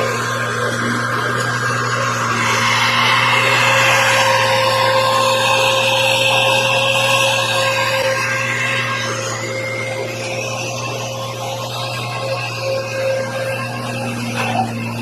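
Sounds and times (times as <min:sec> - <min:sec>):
machine hum: 0:00.0 - 0:15.0
machine whining tones: 0:00.0 - 0:15.0.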